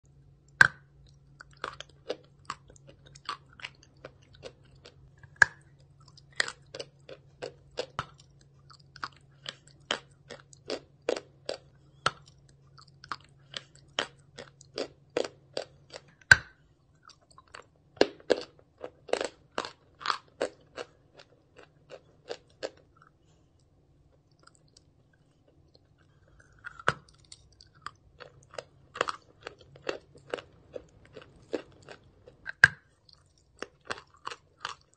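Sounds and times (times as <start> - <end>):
person chewing chalk crunching: 0.5 - 34.9.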